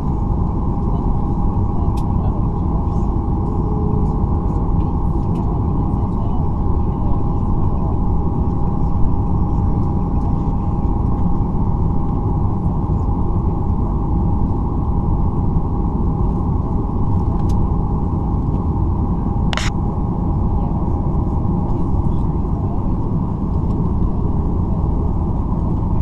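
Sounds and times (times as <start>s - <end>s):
airplane cabin rumble: 0.0s - 26.0s
constant hum: 0.0s - 26.0s.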